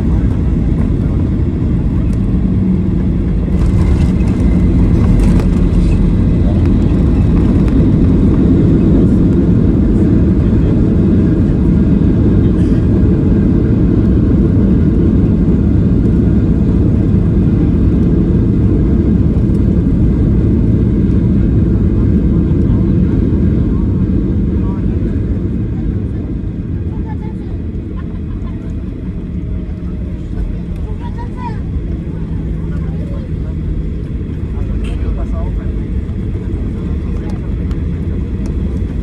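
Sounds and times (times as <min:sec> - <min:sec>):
airplane cabin engine rumble: 0:00.0 - 0:39.0.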